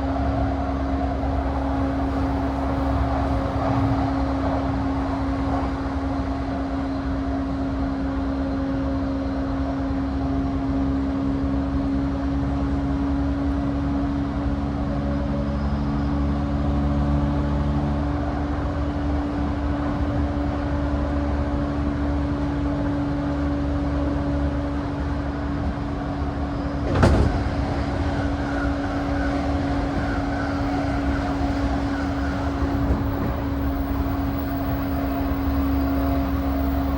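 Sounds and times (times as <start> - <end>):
traction equipment hum: 0.0 - 10.1, 13.4 - 36.9
wheels rumbling on rail: 0.0 - 36.9.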